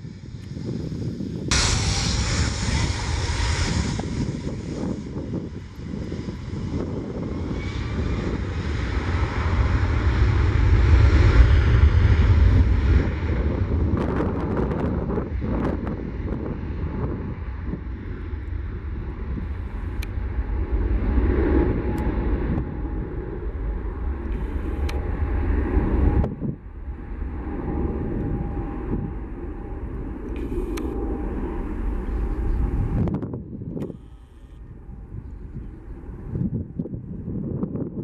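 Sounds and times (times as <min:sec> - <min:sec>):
jet engines rumbling with whine: 0:00.0 - 0:38.0.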